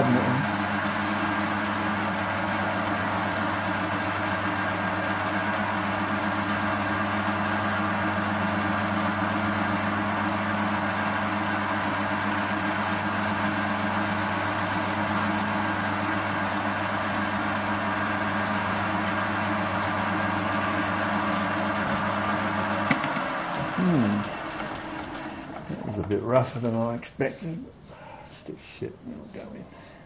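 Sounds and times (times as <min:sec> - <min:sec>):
metal lathe humming: 0:00.0 - 0:26.2.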